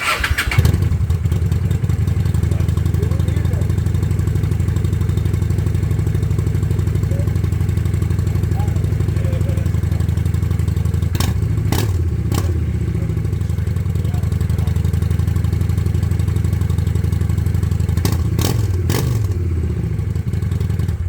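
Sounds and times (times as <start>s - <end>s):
motorcycle engine idling: 0.0s - 21.0s
motorcycle throttle blips: 0.0s - 21.0s.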